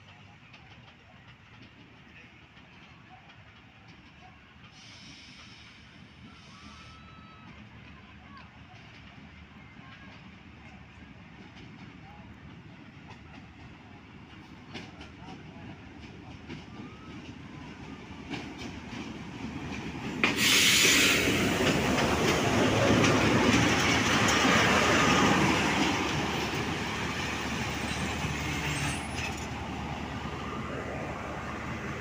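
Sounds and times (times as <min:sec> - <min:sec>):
diesel locomotive passing: 0:00.0 - 0:32.0
train coaches rolling on rails: 0:00.0 - 0:32.0.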